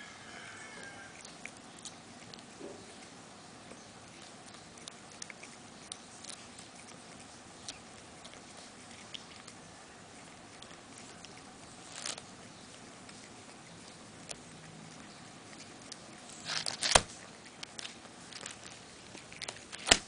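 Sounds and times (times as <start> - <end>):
cat chewing grass: 0.0 - 20.0.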